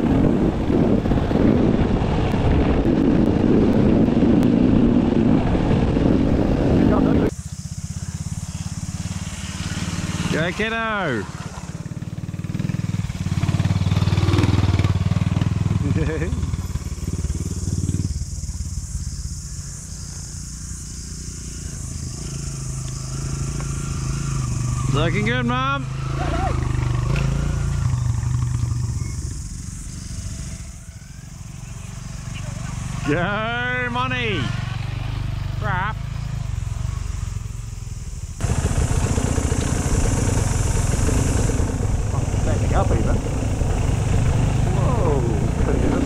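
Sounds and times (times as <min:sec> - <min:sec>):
dirt bike engine low revs: 0:00.0 - 0:19.3, 0:20.3 - 0:31.2, 0:31.8 - 0:46.0
another dirt bike approaching: 0:00.0 - 0:46.0
wind hiss: 0:00.0 - 0:46.0.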